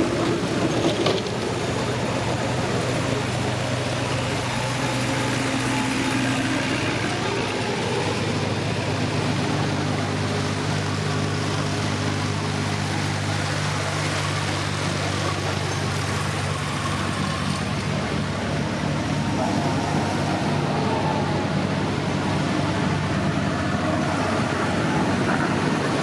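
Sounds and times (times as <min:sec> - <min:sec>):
tractor engines humming: 0:00.0 - 0:26.0.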